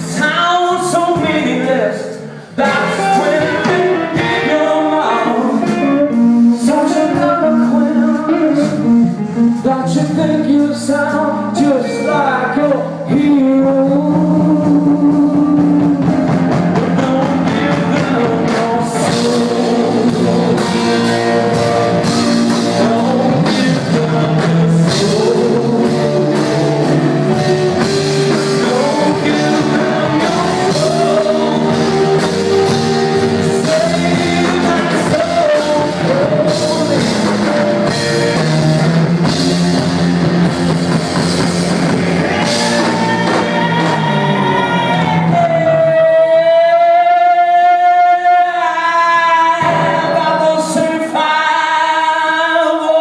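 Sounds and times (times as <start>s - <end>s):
live rock band playing: 0.0s - 46.4s, 49.3s - 51.4s
person singing: 0.0s - 53.0s.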